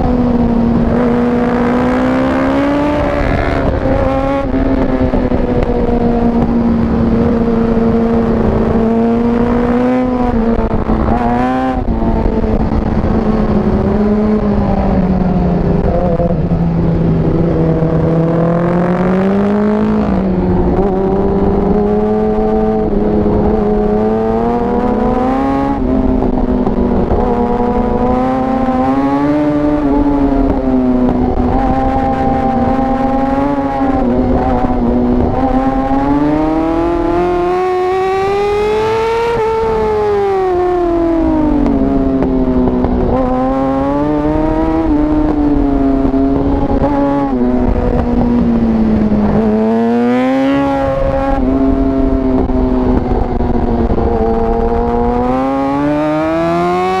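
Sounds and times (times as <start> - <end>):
motorcycle engine at full throttle: 0.0 - 57.0.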